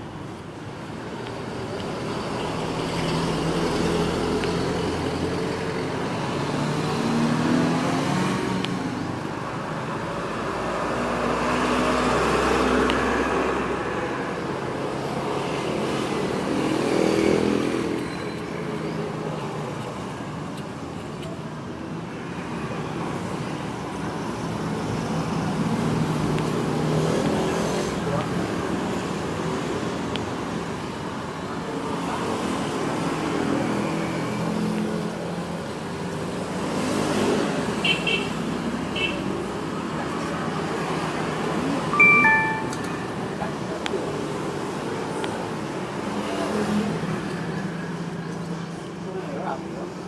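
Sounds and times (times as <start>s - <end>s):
steady traffic hum: 0.0s - 50.0s
vehicles passing: 0.0s - 50.0s.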